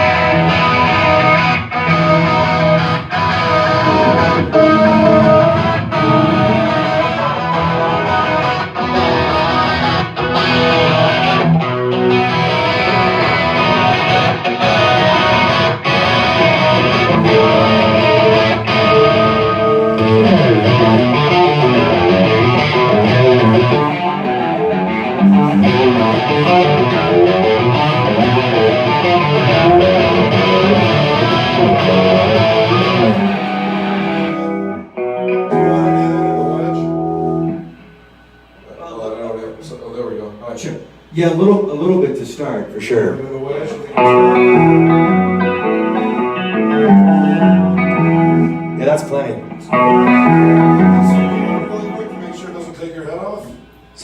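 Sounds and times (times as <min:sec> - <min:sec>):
rock band playing live: 0:00.0 - 0:37.7, 0:43.9 - 0:52.4
distorted electric guitar: 0:00.0 - 0:38.8, 0:43.4 - 0:54.0.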